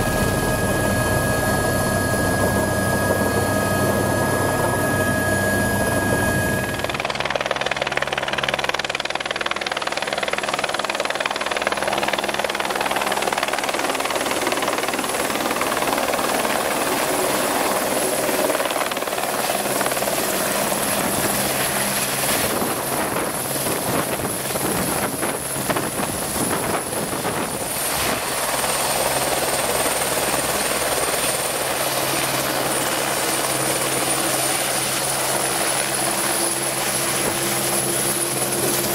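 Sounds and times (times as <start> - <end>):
helicopter rotor noise: 0.0 - 38.9
helicopter turbine whine: 0.0 - 38.9.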